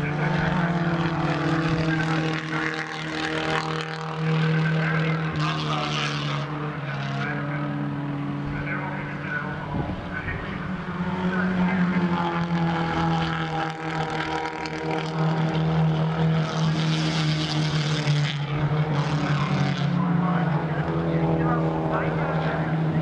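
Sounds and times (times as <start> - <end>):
race car engines at high revs: 0.0 - 23.0.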